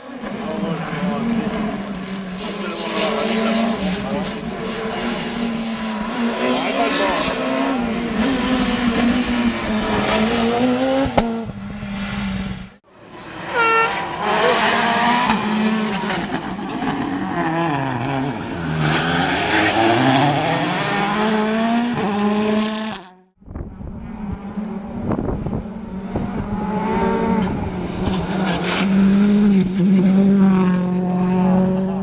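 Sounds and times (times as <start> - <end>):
rally car engines passing: 0.0 - 32.0.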